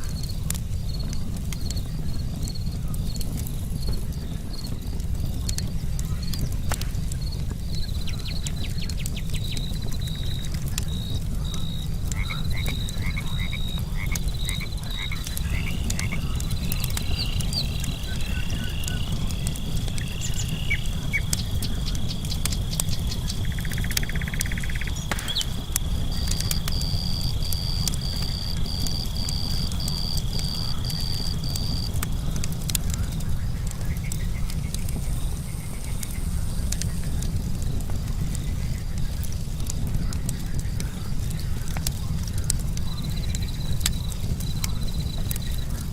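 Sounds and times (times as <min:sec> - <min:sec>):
campfire crackling pops: 0:00.0 - 0:45.9
crickets trilling: 0:00.0 - 0:45.9
frogs croaking: 0:07.2 - 0:45.9.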